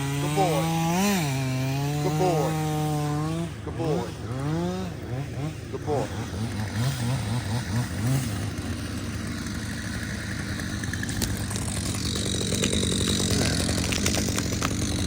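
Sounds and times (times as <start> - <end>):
chainsaw engine idling: 0.0 - 15.0.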